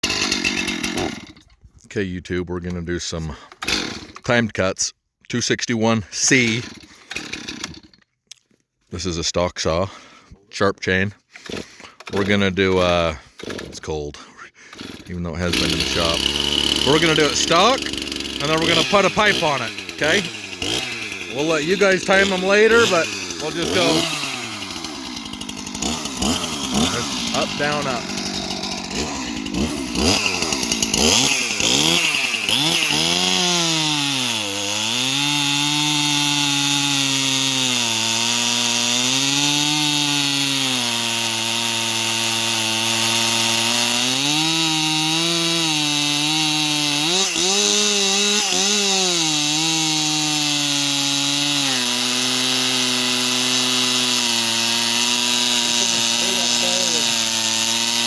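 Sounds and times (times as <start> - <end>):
chainsaw cutting wood: 0.0 - 1.6, 3.4 - 4.4, 6.2 - 8.1, 11.3 - 58.0.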